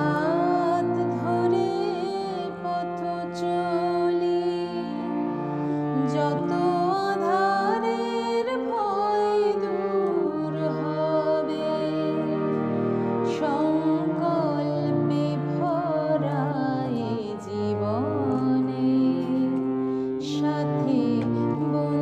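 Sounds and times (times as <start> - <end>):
harmonium chords: 0.0 - 22.0.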